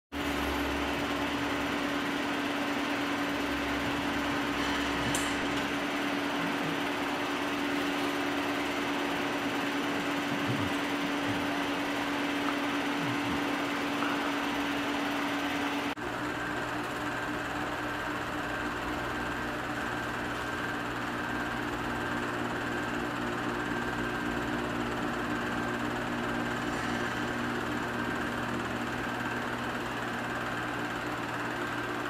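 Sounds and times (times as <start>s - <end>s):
film projector whirring: 0.2s - 32.0s.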